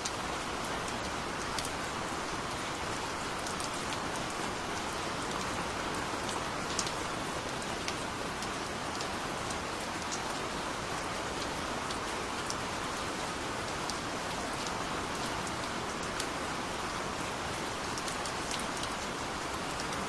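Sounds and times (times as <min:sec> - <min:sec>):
gentle rain: 0:00.0 - 0:20.0.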